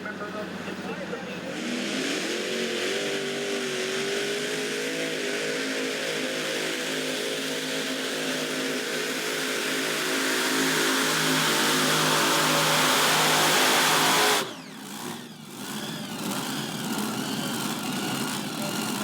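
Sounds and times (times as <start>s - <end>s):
tractor engine at high revs: 0.0s - 19.0s.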